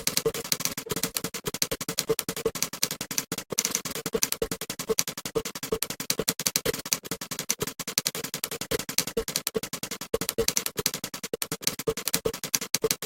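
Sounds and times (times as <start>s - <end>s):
typewriter keys clicking: 0.0s - 13.0s.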